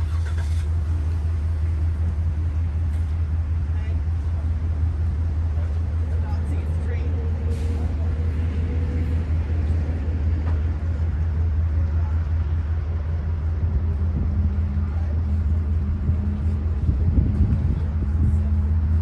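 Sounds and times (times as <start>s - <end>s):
train engine idling hum: 0.0s - 19.0s.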